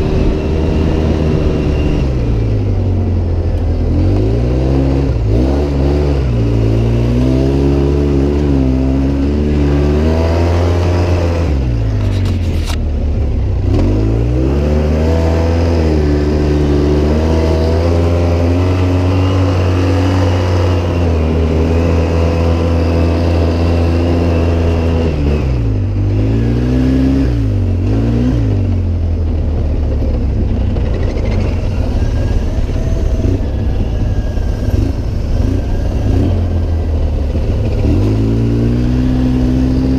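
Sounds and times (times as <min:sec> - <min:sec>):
off-road vehicle engine under load: 0:00.0 - 0:39.9.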